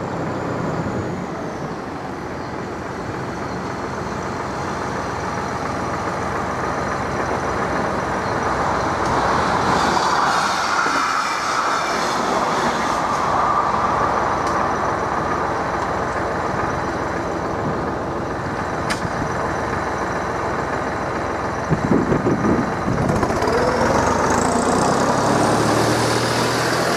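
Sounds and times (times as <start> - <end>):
cars idling and driving: 0.0 - 26.9.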